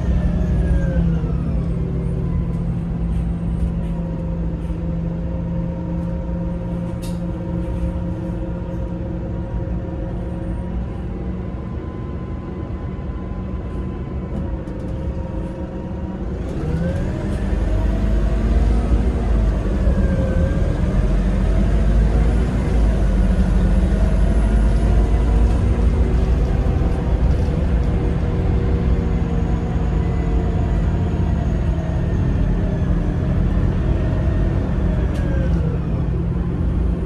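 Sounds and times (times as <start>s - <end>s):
bus diesel engine: 0.0s - 37.0s.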